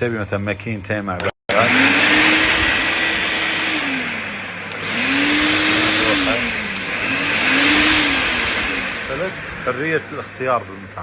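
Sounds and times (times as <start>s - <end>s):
wet dry vacuum cleaner running: 1.2s - 11.0s.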